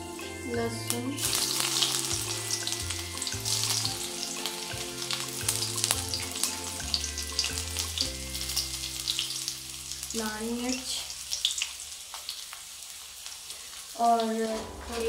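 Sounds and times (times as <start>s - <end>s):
spices sizzling in hot oil: 0.0s - 15.0s
crackles and pops of frying: 0.8s - 15.0s.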